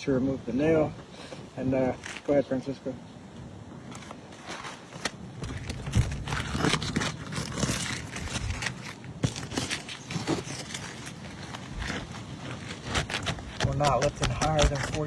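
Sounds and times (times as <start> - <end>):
roof shingles crackling and scraping: 1.1 - 2.6, 3.8 - 15.0.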